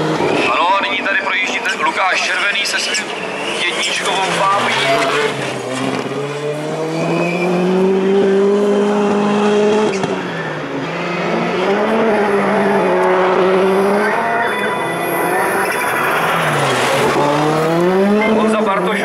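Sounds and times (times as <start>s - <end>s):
car engine revving high: 3.0s - 19.0s.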